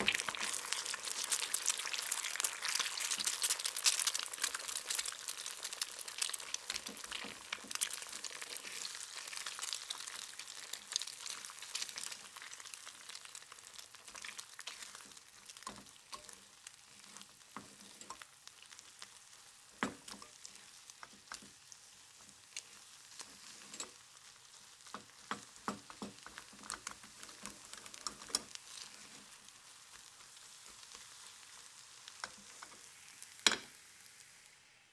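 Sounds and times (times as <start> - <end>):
egg sizzling in hot oil: 0.0 - 34.9.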